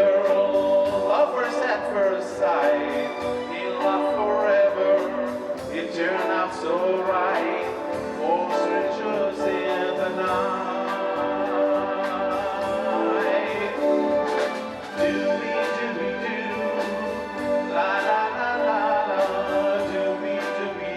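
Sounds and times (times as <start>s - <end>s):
live band playing slow ballad: 0.0s - 20.9s.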